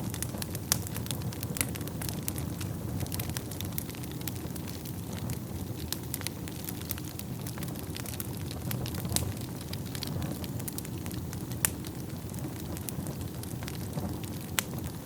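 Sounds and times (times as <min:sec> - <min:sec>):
flames rumbling: 0:00.0 - 0:15.0
wood fire crackling and popping: 0:00.0 - 0:15.0.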